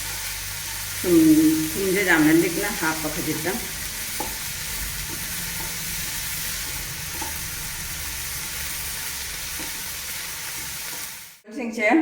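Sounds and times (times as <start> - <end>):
butter sizzling on a griddle: 0.0 - 11.4.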